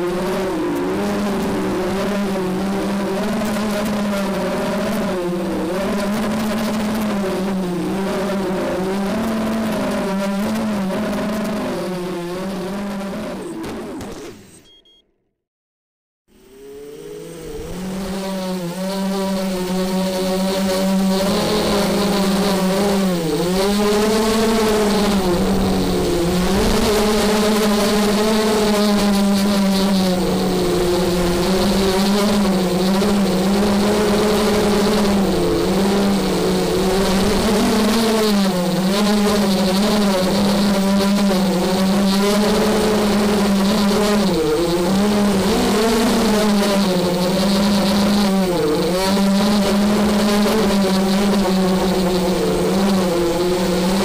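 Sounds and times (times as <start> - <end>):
quadcopter motors buzzing whine: 0.0 - 15.0, 16.3 - 54.0.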